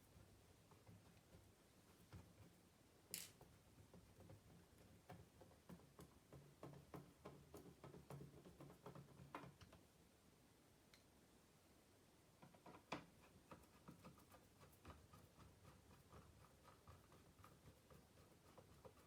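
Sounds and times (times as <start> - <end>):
faint irregular clicks and taps: 0.0 - 10.0, 10.9 - 11.2, 12.3 - 19.0.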